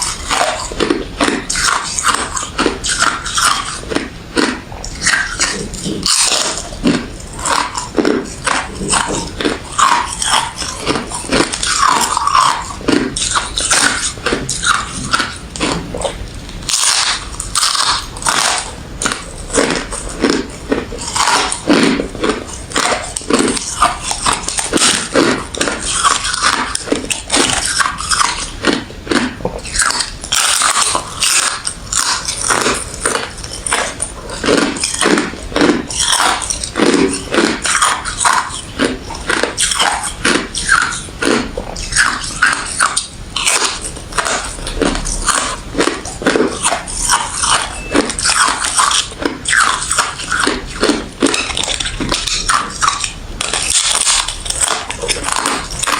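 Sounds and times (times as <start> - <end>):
person chewing crushed ice: 0.0 - 55.9.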